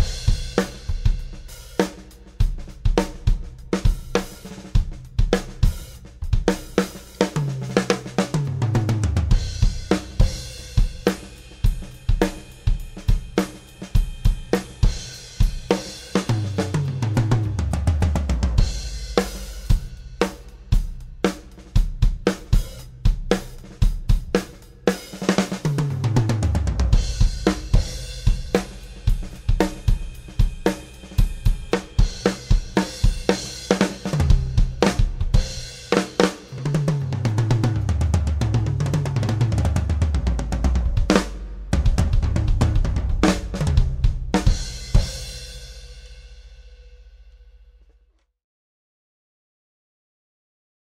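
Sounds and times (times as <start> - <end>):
drum kit groove: 0.0 - 47.9.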